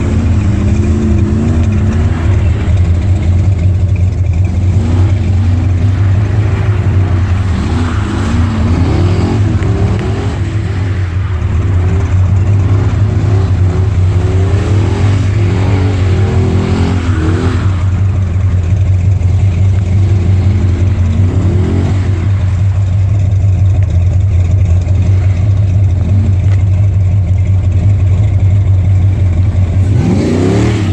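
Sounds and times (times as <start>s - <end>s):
car engine revving: 0.0s - 30.9s.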